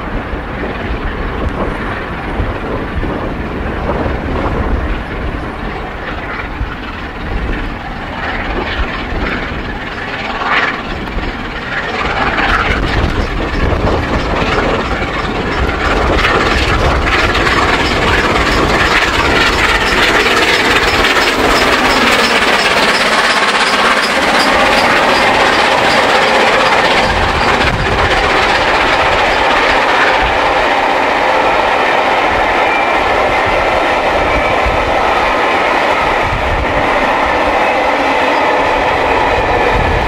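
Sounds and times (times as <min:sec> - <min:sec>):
steam locomotive chuffing: 0:00.0 - 0:40.0
train coaches rolling by: 0:00.0 - 0:40.0
wind buffeting microphone: 0:00.0 - 0:40.0.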